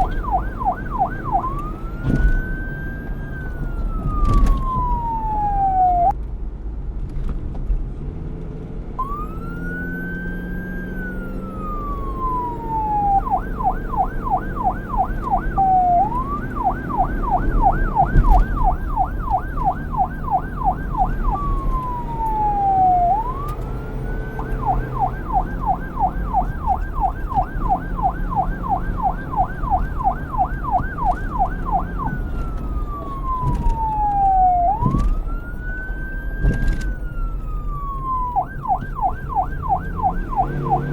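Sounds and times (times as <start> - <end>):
electronic police siren wailing and yelping: 0.0 - 6.1, 9.0 - 40.9
low vehicle rumble: 0.0 - 40.9.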